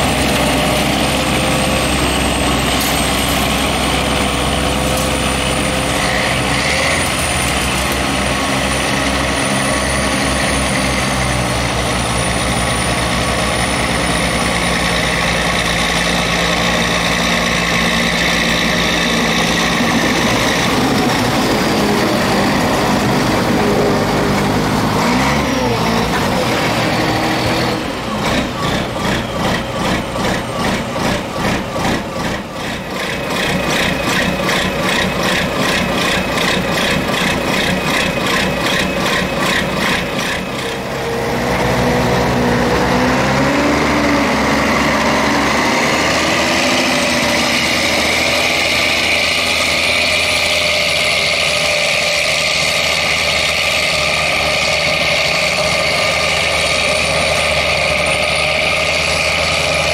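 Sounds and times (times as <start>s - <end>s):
diesel engine pulsing: 0.0s - 59.9s
diesel engine with high whine: 0.0s - 59.9s.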